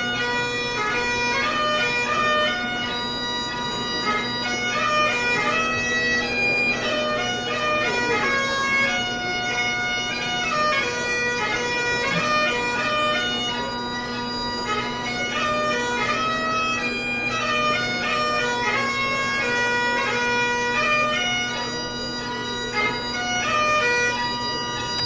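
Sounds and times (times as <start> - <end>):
bagpipes playing a tune: 0.0 - 25.0.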